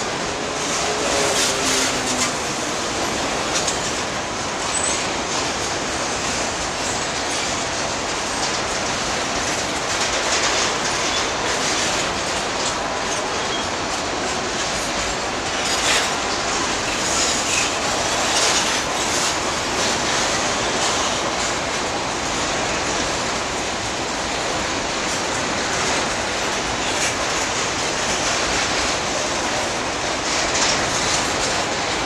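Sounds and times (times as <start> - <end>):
train wheels rumbling on rails: 0.0 - 32.0
wheels clicking over track joints: 0.0 - 32.0.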